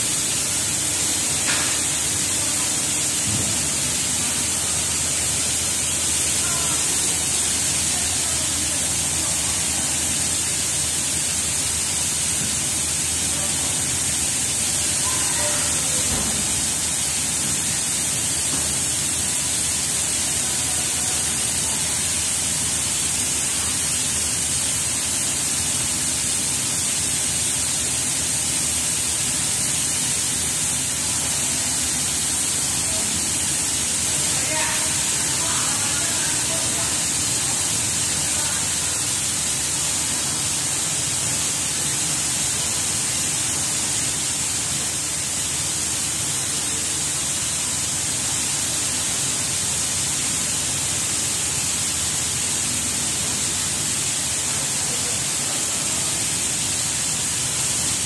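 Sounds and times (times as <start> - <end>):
factory machinery hissing: 0.0 - 58.0.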